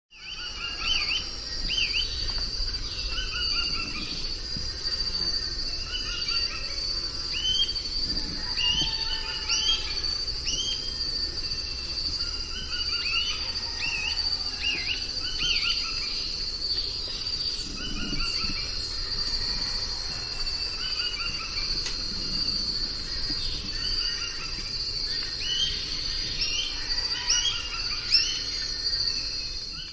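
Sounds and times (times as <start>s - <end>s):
birds chirping: 0.1s - 29.9s
insects droning: 0.1s - 29.9s.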